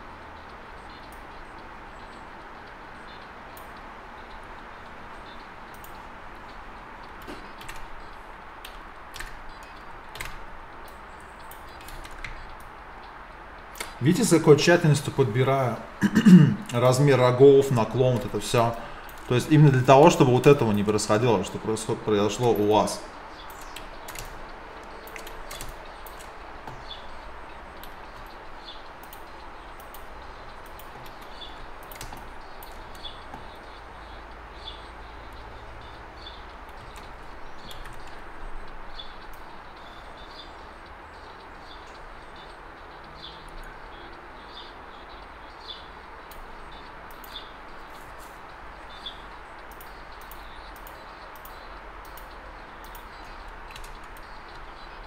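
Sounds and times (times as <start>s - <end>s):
background hiss: 0.0s - 55.0s
light computer clicks: 0.4s - 14.2s, 17.7s - 54.9s.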